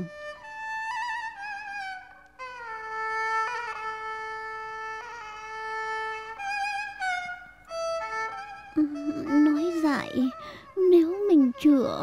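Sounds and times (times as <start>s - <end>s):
slow instrumental melody: 0.0s - 12.0s.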